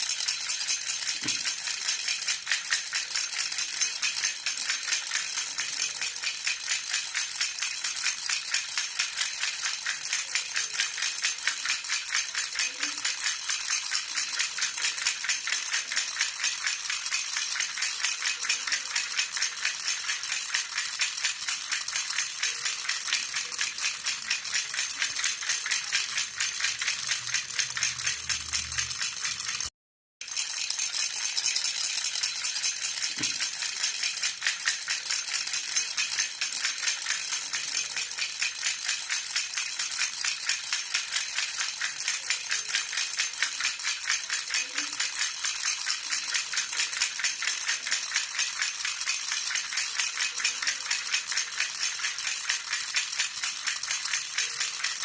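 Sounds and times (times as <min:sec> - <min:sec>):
metal baby rattle jingling: 0:00.0 - 0:29.7, 0:30.3 - 0:55.0.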